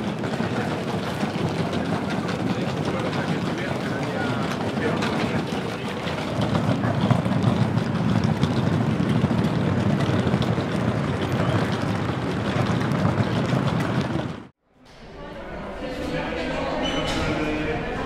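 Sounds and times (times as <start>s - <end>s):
faint clicks and clatter: 0.0s - 14.5s.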